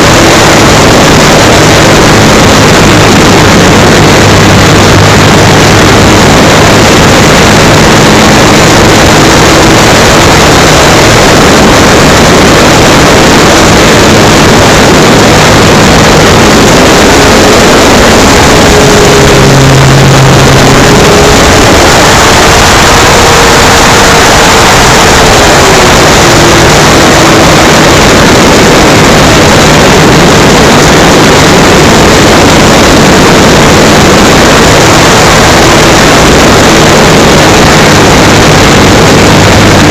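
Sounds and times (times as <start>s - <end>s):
electric motor whine: 0.0s - 39.9s
propeller airflow rushing: 0.0s - 39.9s.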